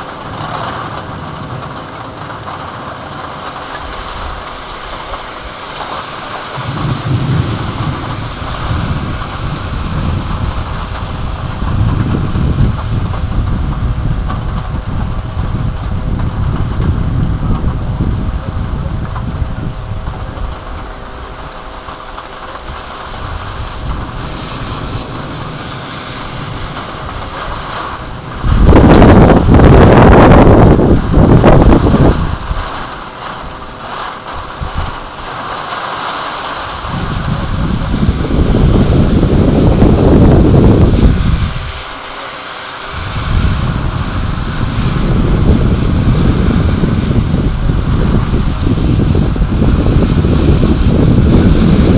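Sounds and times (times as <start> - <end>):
heavy rain falling: 0.0 - 51.9
wind buffeting microphone: 3.4 - 51.9
low thunder rumble: 3.5 - 42.2, 42.8 - 51.9.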